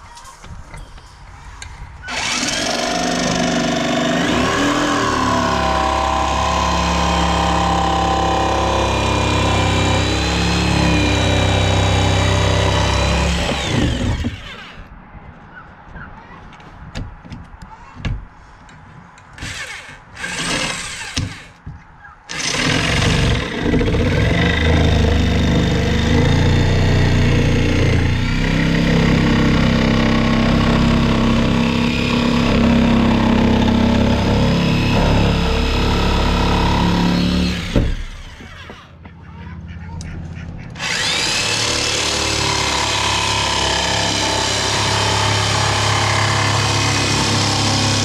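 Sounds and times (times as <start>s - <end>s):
power tool motor running: 2.1s - 14.8s, 19.4s - 21.5s, 22.3s - 38.9s, 40.8s - 48.0s.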